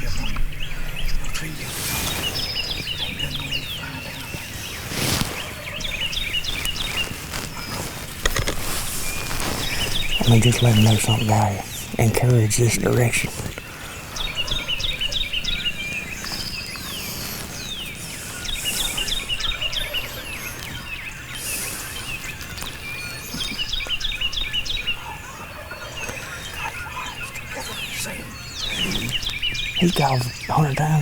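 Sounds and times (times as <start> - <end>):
bird calls: 0.0 - 31.0
songbird chirping: 0.0 - 31.0.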